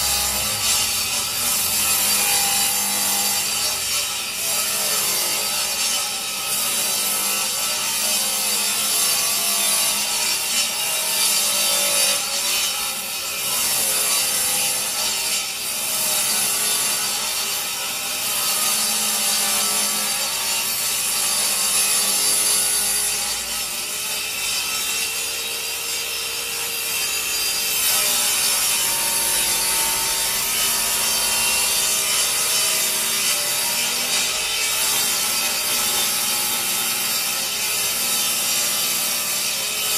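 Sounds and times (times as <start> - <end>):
table saw ripping wood: 0.0 - 39.9.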